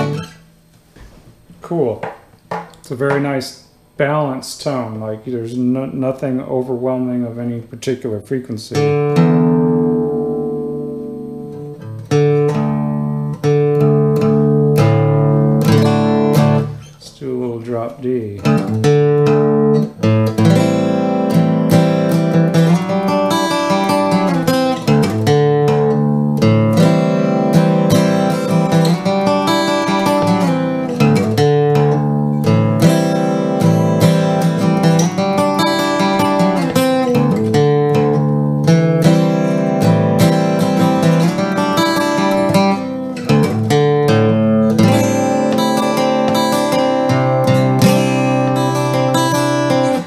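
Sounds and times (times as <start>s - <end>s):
acoustic guitar strumming: 0.0s - 7.5s, 8.7s - 50.0s.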